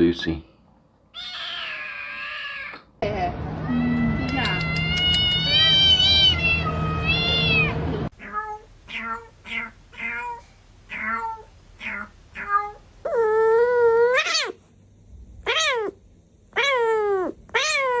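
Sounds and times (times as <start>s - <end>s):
cat meowing: 1.1s - 2.8s, 3.6s - 14.6s, 15.4s - 18.0s.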